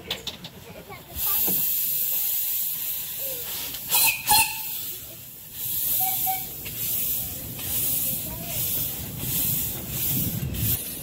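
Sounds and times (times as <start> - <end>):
steam hissing from locomotive: 1.0 - 11.0
sharp loud steam blasts: 1.2 - 11.0.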